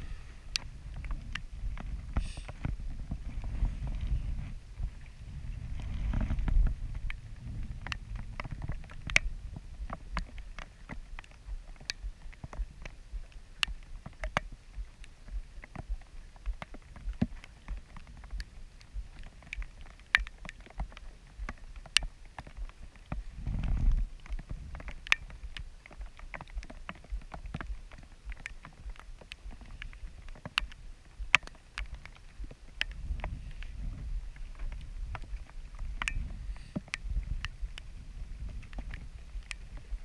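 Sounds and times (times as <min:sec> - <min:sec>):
low rumble of wind and water: 0:00.0 - 0:40.0
raindrops ticking on camera housing: 0:00.0 - 0:40.0.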